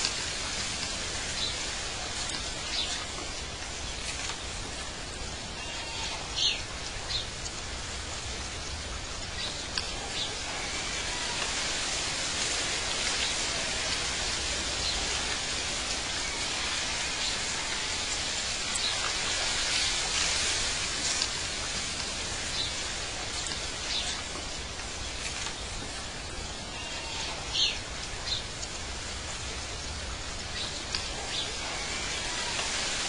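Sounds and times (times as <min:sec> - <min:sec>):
outdoor ambience hiss: 0:00.0 - 0:33.0.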